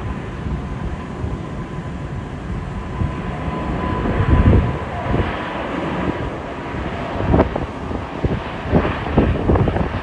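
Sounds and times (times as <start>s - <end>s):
jet engines at takeoff power: 0.0s - 10.0s
wind buffeting microphone: 0.0s - 10.0s.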